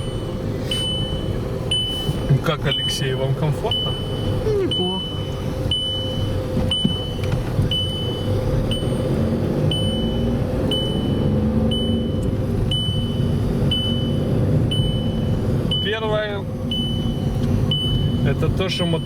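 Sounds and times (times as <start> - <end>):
diesel engine running: 0.0 - 19.0
seatbelt warning chime beeping: 0.0 - 19.0.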